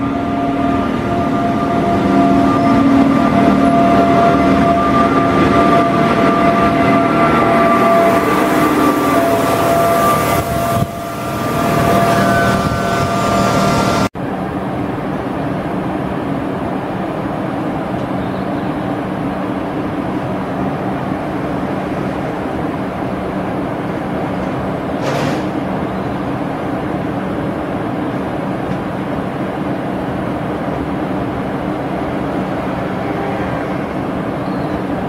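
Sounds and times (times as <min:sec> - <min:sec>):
electric locomotive whine: 0:00.0 - 0:25.0, 0:25.6 - 0:35.0
locomotive humming: 0:00.0 - 0:35.0
train rumble: 0:00.0 - 0:35.0.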